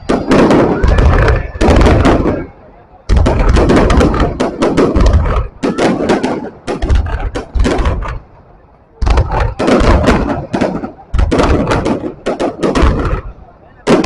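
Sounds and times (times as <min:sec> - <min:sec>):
deep fireworks thumps: 0:00.0 - 0:08.4, 0:09.0 - 0:14.0
fireworks bangs and cracks: 0:00.0 - 0:14.0.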